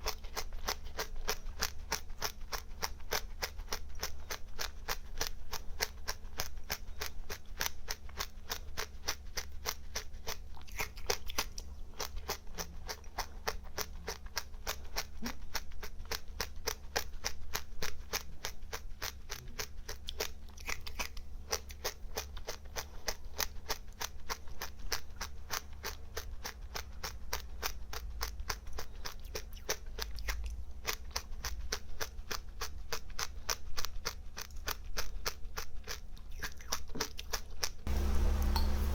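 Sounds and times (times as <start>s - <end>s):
dry seeds being chewed: 0.0s - 38.6s.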